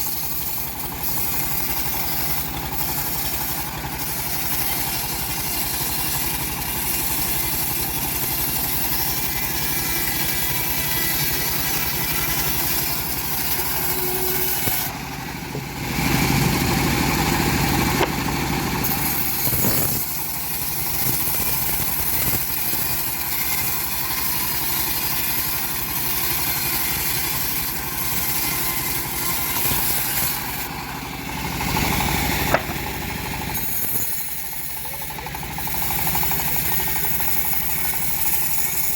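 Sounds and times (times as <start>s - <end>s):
bandsaw mill sawing wood: 0.0s - 38.9s
drive engine running: 0.0s - 38.9s.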